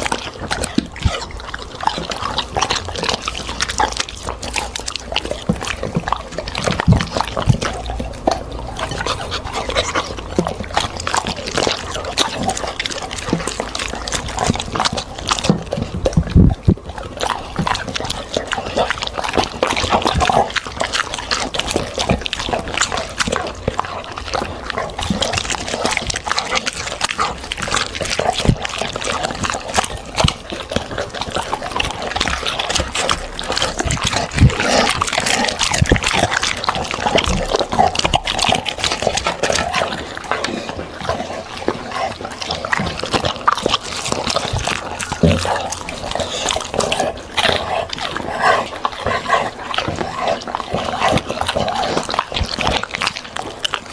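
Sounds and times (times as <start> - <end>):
dog chewing and crunching: 0.0 - 53.9.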